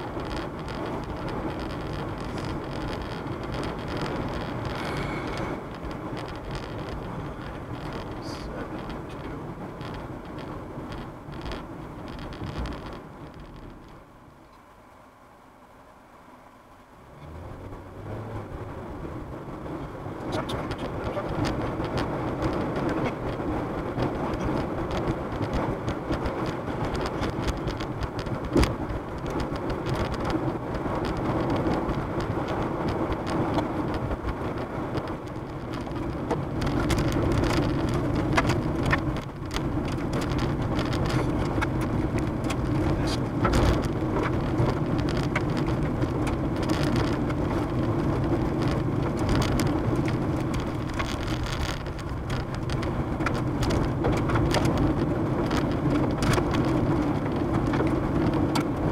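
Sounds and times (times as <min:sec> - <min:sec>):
car road noise: 0:00.0 - 0:58.9
rain ticking on windshield: 0:00.0 - 0:58.9.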